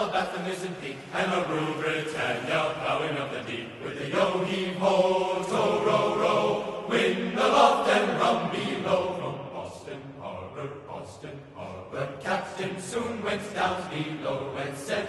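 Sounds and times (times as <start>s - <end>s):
group singing chant-like song: 0.0s - 15.0s.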